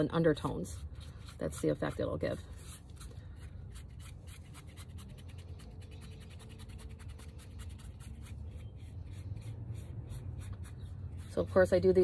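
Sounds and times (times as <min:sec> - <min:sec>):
paintbrush scrubbing rough concrete: 0:00.0 - 0:12.0.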